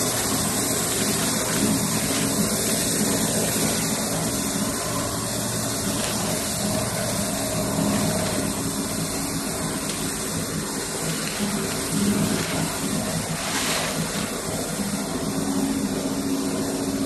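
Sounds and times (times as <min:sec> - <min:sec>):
paper slitting machine running: 0:00.0 - 0:17.0.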